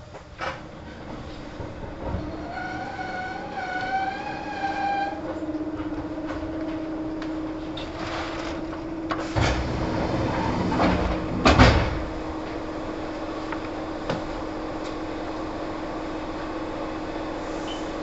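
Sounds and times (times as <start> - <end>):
train doors sliding open: 0.0 - 15.1, 17.3 - 18.0
train equipment hum: 0.0 - 18.0.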